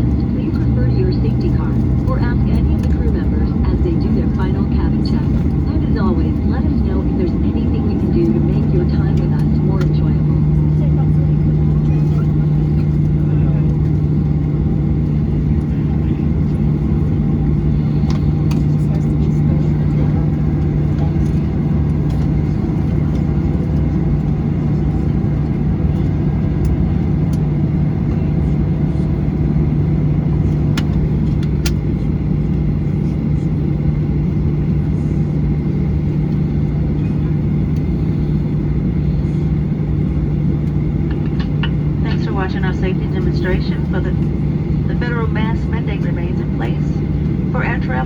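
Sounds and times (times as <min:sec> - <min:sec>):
airplane cabin engine drone: 0:00.0 - 0:48.0.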